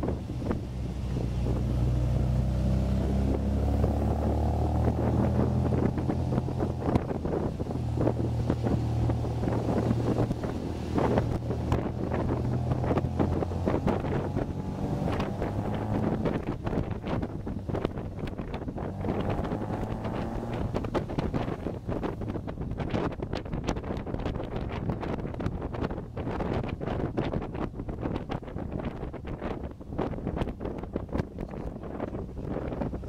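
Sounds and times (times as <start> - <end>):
car engine accelerating: 0.0 - 33.0
wind buffeting microphone: 0.0 - 33.0.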